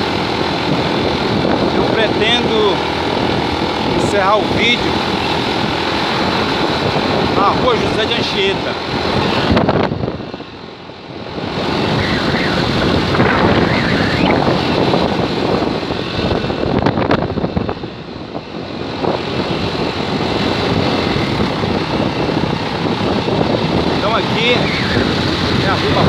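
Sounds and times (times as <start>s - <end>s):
vehicle engine and road noise: 0.0s - 26.0s
wind on microphone: 0.0s - 26.0s.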